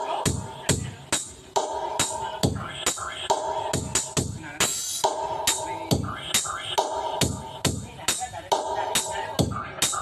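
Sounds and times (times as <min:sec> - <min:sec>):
drum machine beat: 0:00.0 - 0:10.0.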